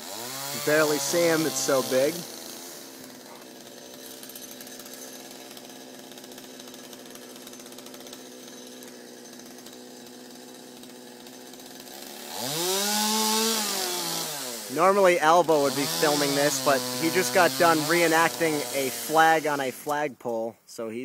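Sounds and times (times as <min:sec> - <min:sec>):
chainsaw engine revving: 0:00.0 - 0:20.0.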